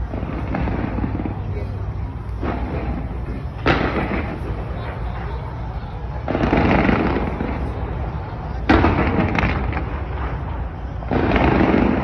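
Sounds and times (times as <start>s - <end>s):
firework bang: 0.0s - 12.0s
fireworks crackling: 0.0s - 12.0s.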